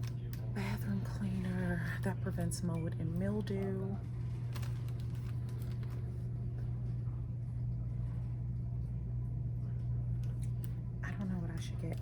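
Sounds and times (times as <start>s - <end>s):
store background hum: 0.0s - 12.0s.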